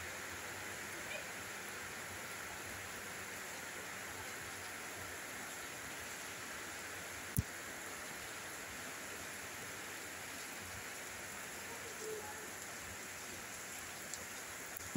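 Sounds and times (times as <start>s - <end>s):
rain falling on leaves: 0.0s - 14.9s.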